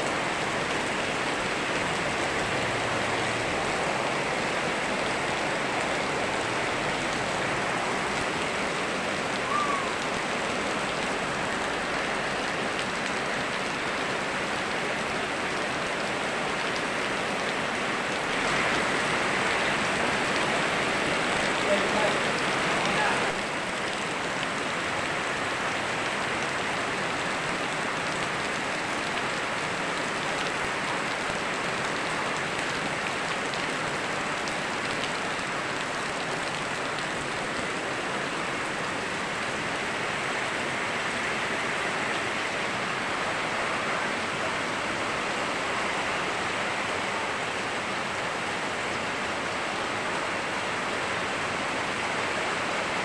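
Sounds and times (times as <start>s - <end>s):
rain falling: 0.0s - 53.0s
river flowing: 0.0s - 53.0s.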